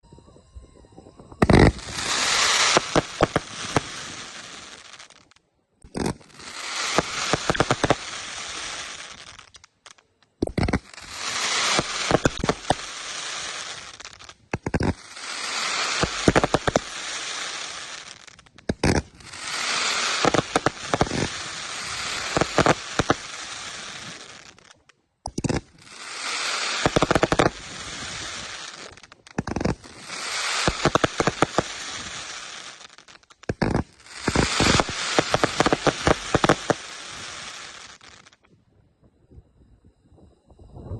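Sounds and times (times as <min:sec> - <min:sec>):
fireworks hissing and crackling: 0:01.4 - 0:38.5.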